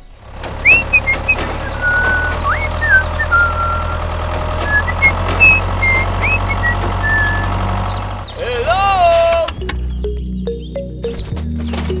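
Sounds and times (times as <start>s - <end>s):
high whistling chirps: 0.0s - 10.7s
low engine hum: 0.0s - 12.0s.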